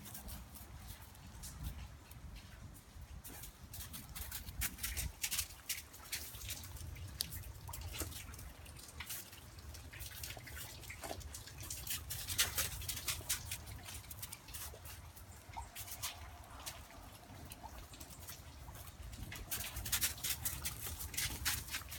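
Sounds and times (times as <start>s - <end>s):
puppy gnawing a stick: 3.2s - 21.9s.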